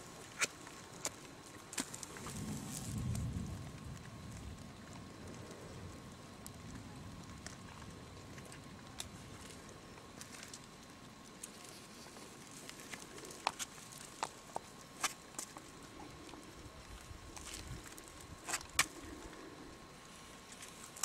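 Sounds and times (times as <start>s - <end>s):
faint crackly background noise: 0.0s - 21.0s.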